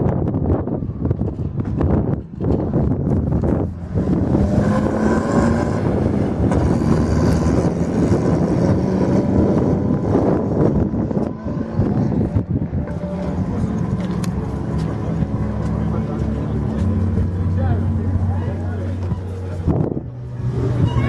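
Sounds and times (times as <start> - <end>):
wind noise on microphone: 0.0 - 21.0
motorcycle engines running: 0.4 - 21.0.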